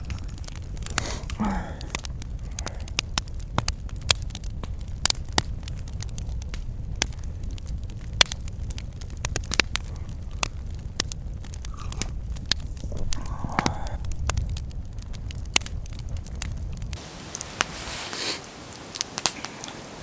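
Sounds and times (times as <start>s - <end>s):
low steady rumble: 0.0s - 17.4s
campfire crackling and snapping: 0.0s - 20.0s.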